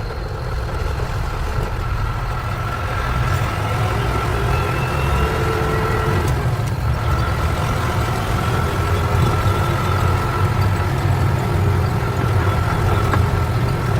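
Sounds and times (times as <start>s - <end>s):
truck engine rumbling: 0.0s - 13.9s.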